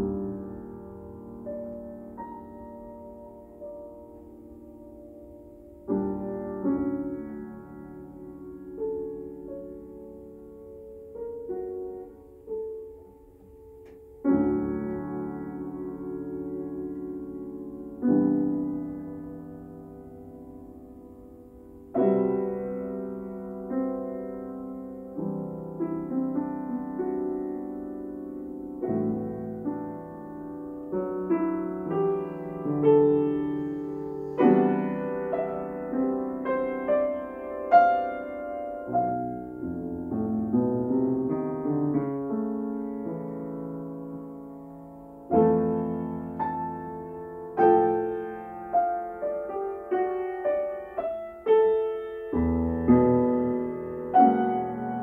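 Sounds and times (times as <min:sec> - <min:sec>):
grand piano playing: 0:00.0 - 0:55.0.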